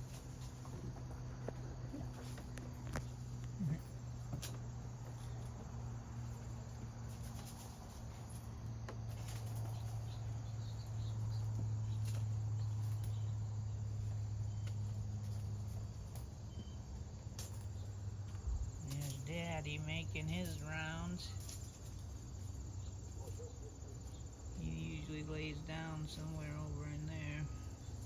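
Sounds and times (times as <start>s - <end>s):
crickets chirring: 0.0s - 28.0s
steady low hum: 0.0s - 28.0s.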